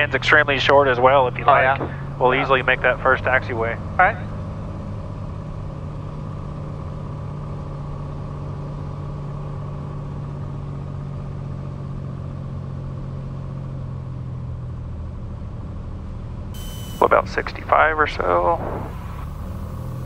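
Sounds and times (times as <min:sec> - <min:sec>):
propeller airplane engine drone: 0:00.0 - 0:20.0.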